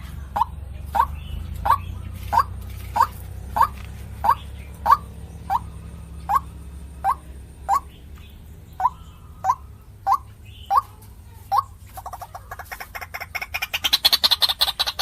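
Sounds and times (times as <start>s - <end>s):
waterhen calling: 0.3s - 8.0s, 8.7s - 15.0s.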